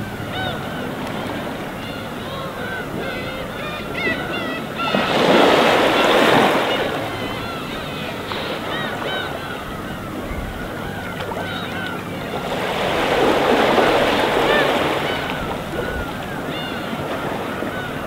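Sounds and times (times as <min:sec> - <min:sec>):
gulls calling: 0:00.0 - 0:18.0
waves breaking on shore: 0:00.0 - 0:18.0.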